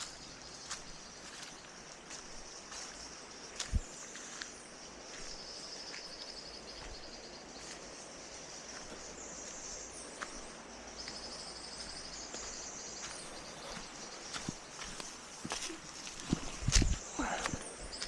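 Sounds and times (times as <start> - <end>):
background hiss: 0.0 - 18.0
insects trilling: 0.0 - 18.0.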